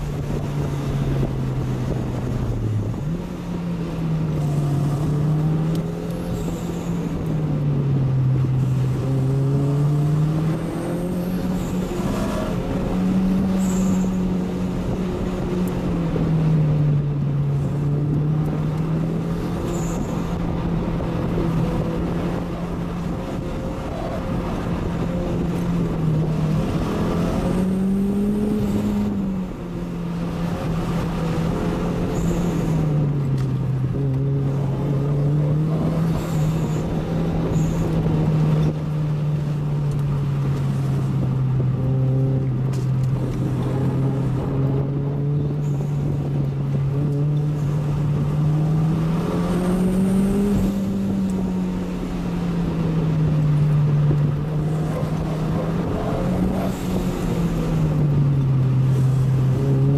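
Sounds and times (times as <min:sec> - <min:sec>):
car engine running: 0:00.0 - 0:59.9
road and tyre noise: 0:00.0 - 0:59.9.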